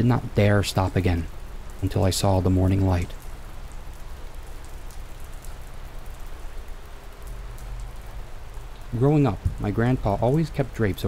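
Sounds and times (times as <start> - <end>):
low steady hum: 0.0 - 11.0
steady rain falling: 0.0 - 11.0.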